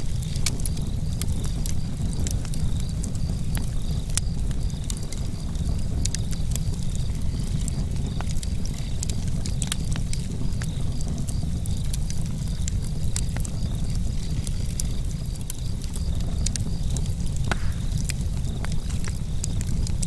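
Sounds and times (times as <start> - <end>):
campfire crackling and popping: 0.0 - 20.0
crickets chirping: 0.0 - 20.0.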